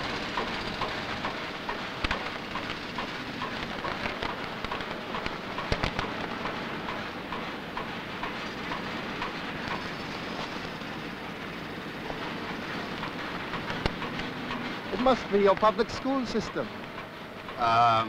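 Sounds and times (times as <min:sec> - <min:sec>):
construction machinery noise: 0:00.0 - 0:18.0.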